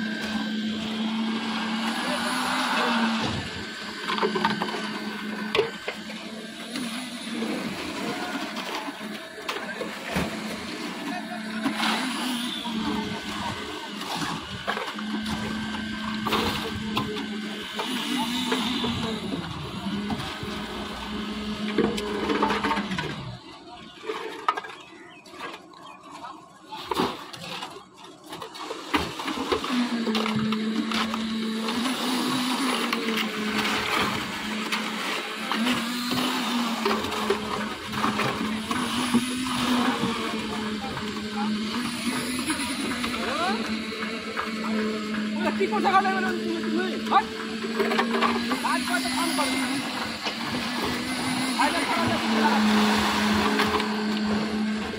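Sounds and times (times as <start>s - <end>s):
concrete mixer engine running: 0.0s - 26.2s, 26.8s - 54.9s.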